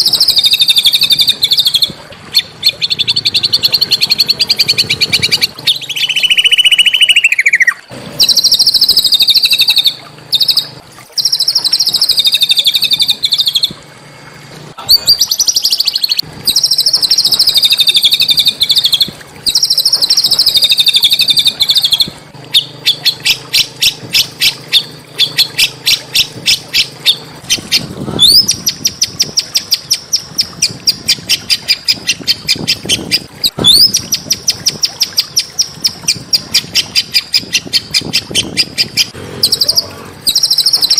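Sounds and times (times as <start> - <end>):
songbird singing trills: 0.0 - 13.8, 14.8 - 40.9.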